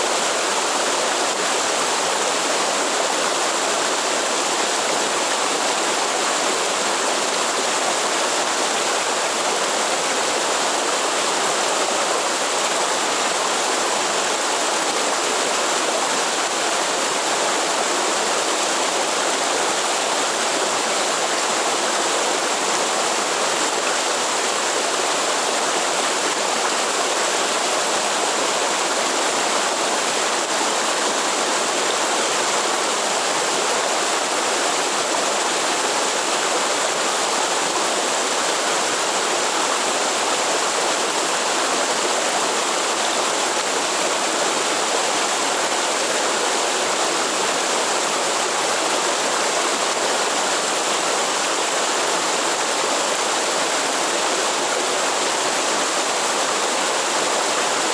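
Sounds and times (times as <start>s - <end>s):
waterfall rushing and splashing: 0.0s - 57.9s.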